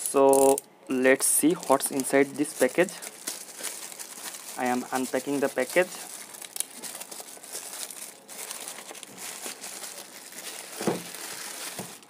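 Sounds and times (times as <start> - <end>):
plastic bag crinkling and rustling: 1.2 - 12.0.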